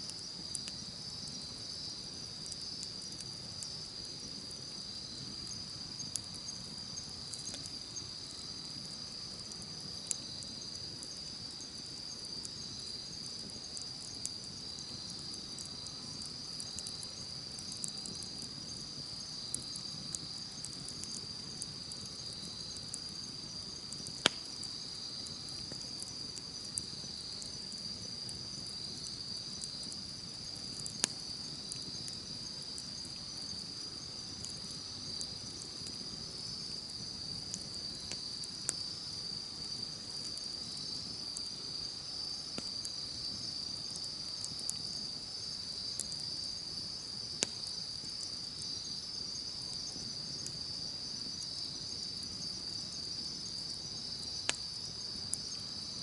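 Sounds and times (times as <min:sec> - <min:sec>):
campfire crackling and popping: 0:00.0 - 0:56.0
crickets chirring: 0:00.0 - 0:56.0.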